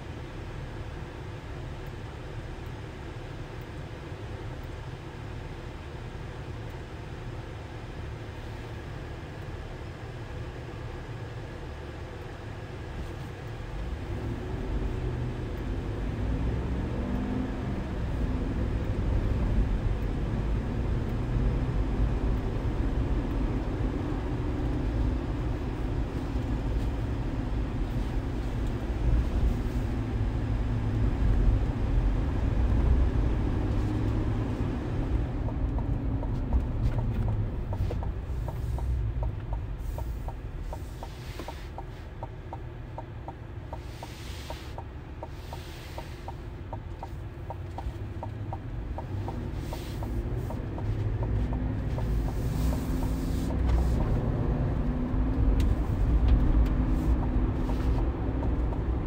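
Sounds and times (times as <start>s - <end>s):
truck engine and tyres rumbling: 0.0s - 59.0s.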